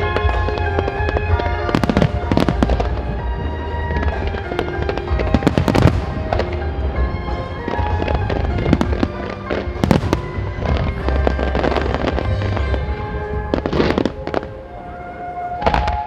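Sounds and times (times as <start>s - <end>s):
fireworks bangs: 0.0s - 16.0s
music playing: 0.0s - 16.0s.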